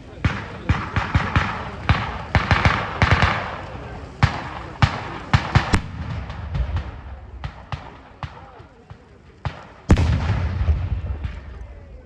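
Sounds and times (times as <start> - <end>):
firecrackers banging: 0.0 - 12.0.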